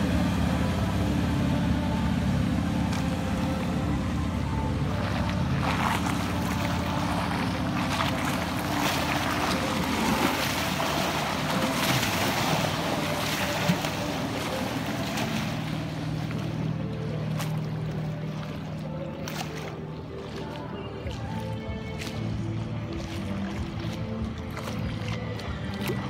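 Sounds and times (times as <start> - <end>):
motorboat engine running: 0.0 - 26.0
water rushing and splashing: 0.0 - 26.0.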